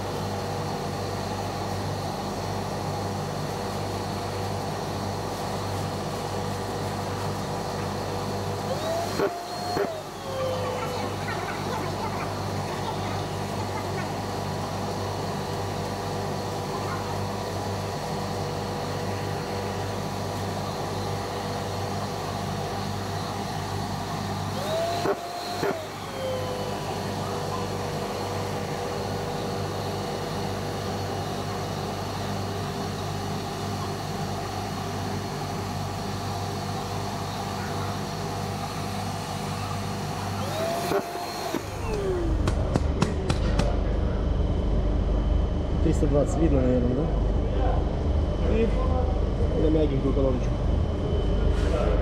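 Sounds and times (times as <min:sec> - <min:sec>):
dust extractor whine: 0:00.0 - 0:52.0.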